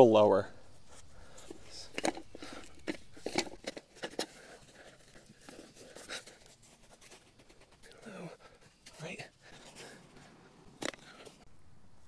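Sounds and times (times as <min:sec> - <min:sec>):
hands scraping soil: 0:00.7 - 0:11.5.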